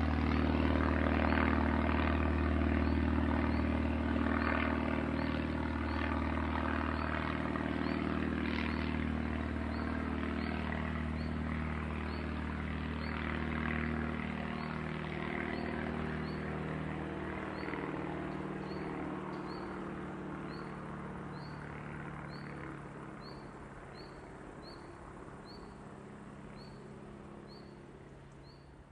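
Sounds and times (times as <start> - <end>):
propeller plane engine droning: 0.0 - 28.9.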